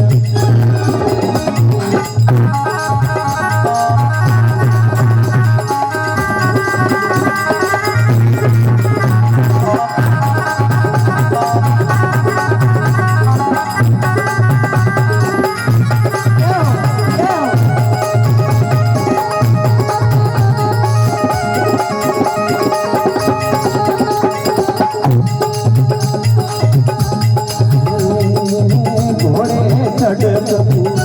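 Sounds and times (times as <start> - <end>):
sustained melody line: 0.0 - 30.6
steady drum beat: 0.0 - 31.0.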